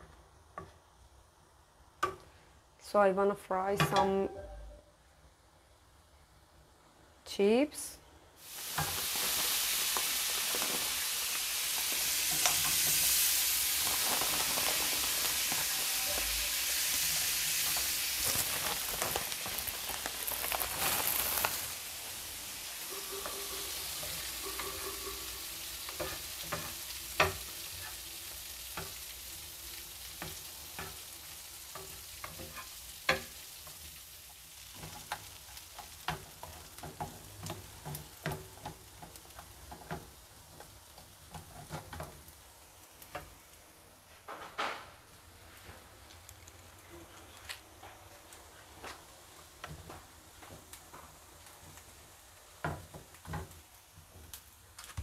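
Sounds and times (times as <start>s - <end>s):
chips sizzling in oil: 8.4s - 43.9s, 45.6s - 55.0s.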